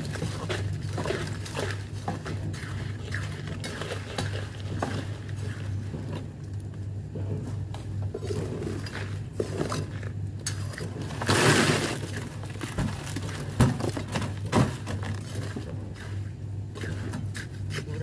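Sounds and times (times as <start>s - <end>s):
wet concrete pouring: 0.0s - 6.3s, 8.2s - 18.0s.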